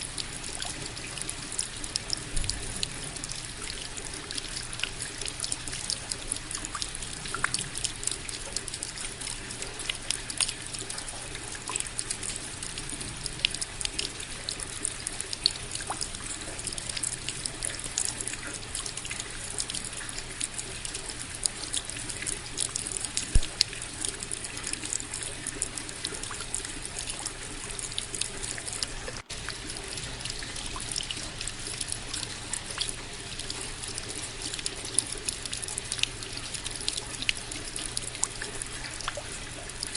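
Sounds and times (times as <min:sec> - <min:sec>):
rain drops pattering: 0:00.0 - 0:39.9
water trickling: 0:00.0 - 0:39.9.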